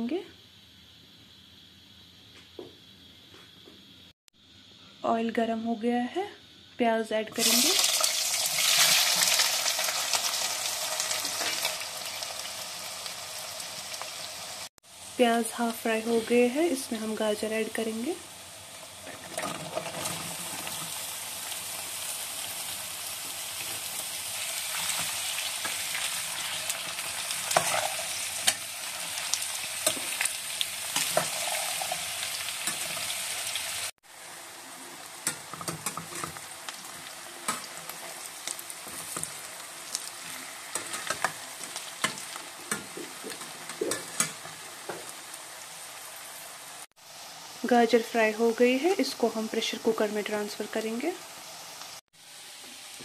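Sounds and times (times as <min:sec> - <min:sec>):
vegetables sizzling in hot oil: 0:06.9 - 0:53.0.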